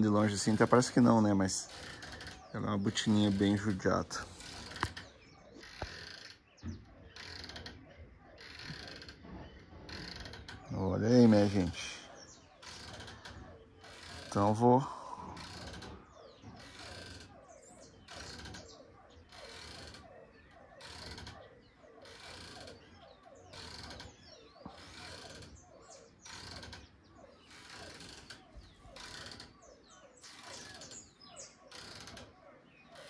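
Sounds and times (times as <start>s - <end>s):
hammock creaking: 0.0s - 33.0s.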